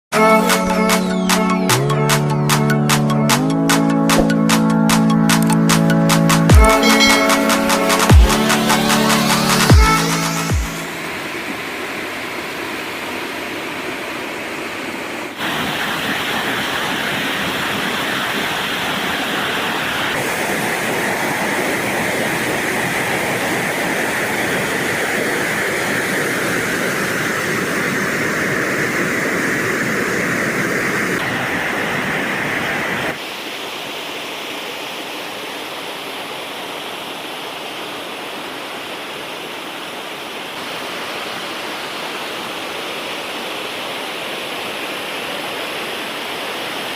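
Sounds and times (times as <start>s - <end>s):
waterfall rushing: 6.5s - 46.9s.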